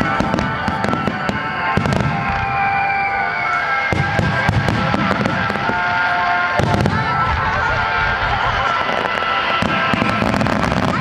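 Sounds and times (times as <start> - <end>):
fireworks bursting with bangs and crackling: 0.0 - 11.0.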